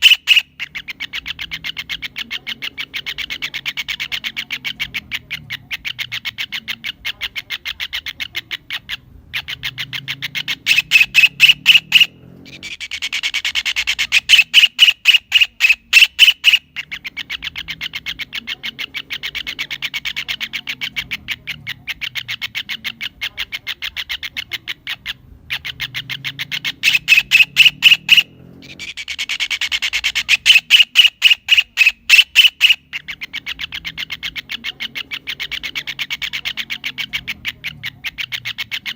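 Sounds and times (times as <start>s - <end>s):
kingfisher calling: 0.0s - 38.9s.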